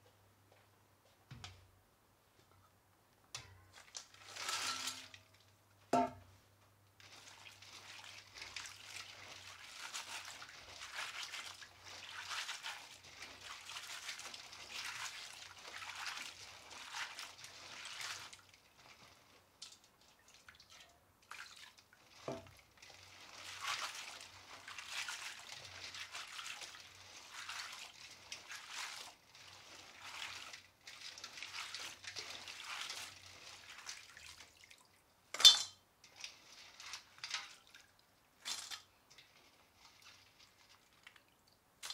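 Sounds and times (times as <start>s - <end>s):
water sloshing in metal bowl: 3.4s - 6.2s, 7.0s - 41.9s.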